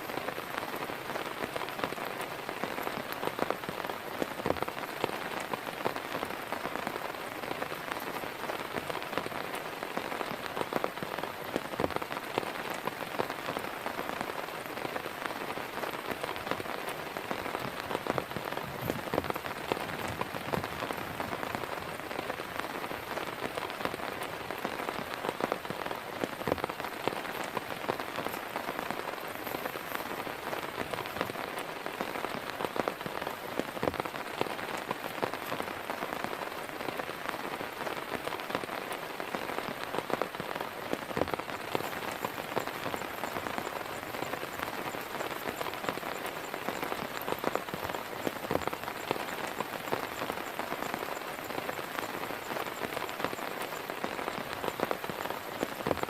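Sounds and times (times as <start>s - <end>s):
heavy rain falling: 0.0s - 56.0s
raindrops hitting a surface: 0.0s - 56.0s.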